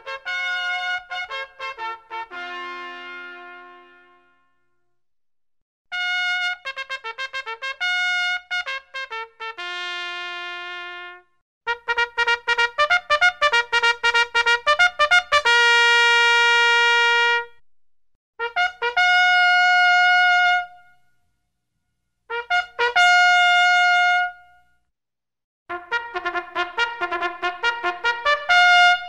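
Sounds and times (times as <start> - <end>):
solo trumpet playing: 0.0 - 4.6, 5.9 - 17.6, 18.4 - 21.0, 22.3 - 24.6, 25.7 - 29.0.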